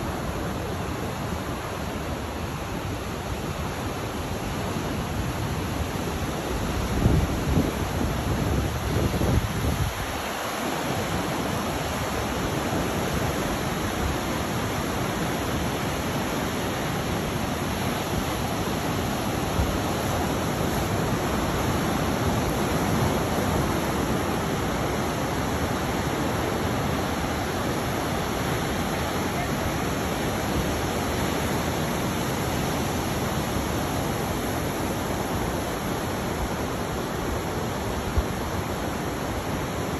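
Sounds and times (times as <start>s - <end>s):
ocean surf on rocky shore: 0.0s - 39.9s.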